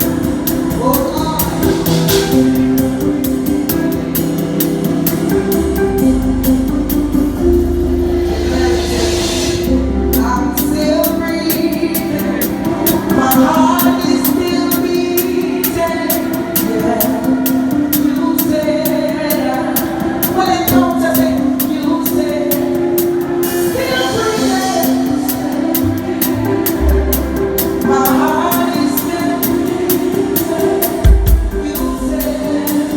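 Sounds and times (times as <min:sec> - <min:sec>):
keyboard chords: 0:00.0 - 0:32.9
live band playing gospel song: 0:00.0 - 0:32.9.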